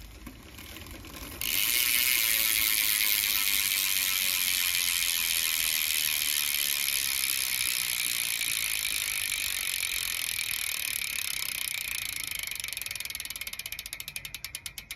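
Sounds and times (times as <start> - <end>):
bicycle hub freewheel clicking: 0.0 - 14.9.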